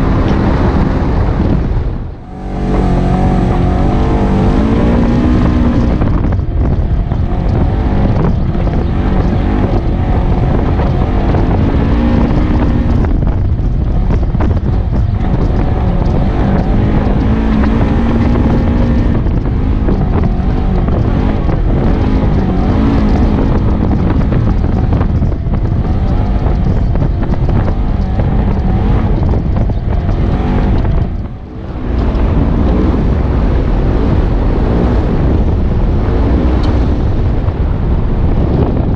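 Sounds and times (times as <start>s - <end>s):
off-road vehicle engine revving: 0.0s - 38.9s
wind buffeting microphone: 0.0s - 38.9s.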